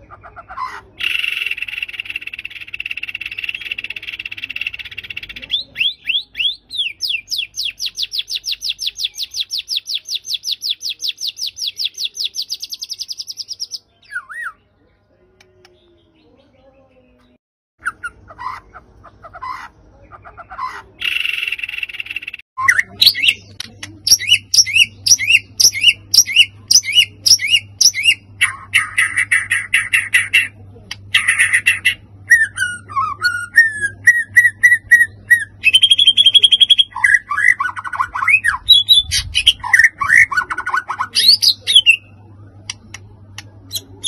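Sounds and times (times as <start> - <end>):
bird singing: 0.0 - 44.0
whistled bird notes and trills: 0.6 - 18.6, 21.0 - 44.0.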